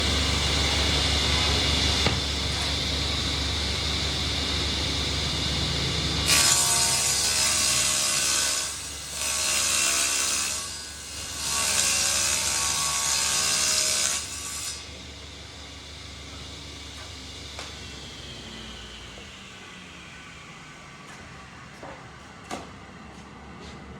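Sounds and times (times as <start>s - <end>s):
power saw cutting wood: 0.0s - 21.9s.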